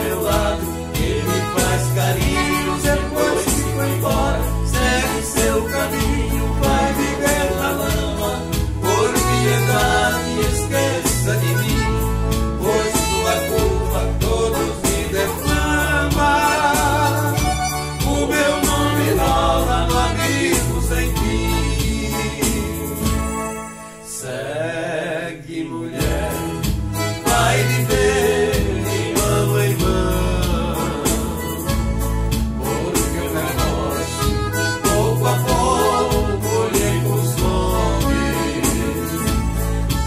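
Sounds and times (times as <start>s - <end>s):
keyboard beat and bass line: 0.0s - 23.8s, 26.0s - 40.0s
acoustic guitar: 0.0s - 25.0s, 25.9s - 40.0s
accordion: 0.0s - 25.2s, 25.9s - 40.0s.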